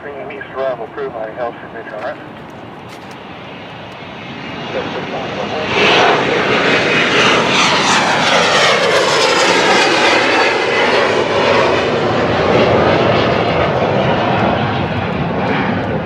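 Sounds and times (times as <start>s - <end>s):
jet airliner passing: 0.0s - 16.0s.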